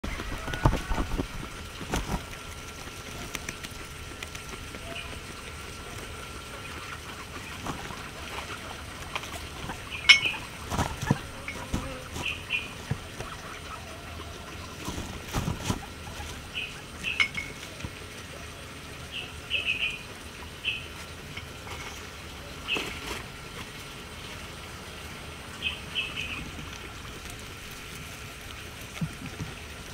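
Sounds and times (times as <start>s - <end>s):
guinea pig chewing grass: 0.0s - 20.1s, 25.7s - 29.9s.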